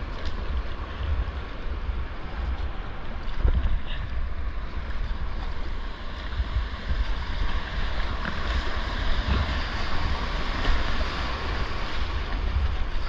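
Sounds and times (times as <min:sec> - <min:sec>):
rushing whitewater: 0:00.0 - 0:13.0
wind buffeting microphone: 0:00.0 - 0:13.0.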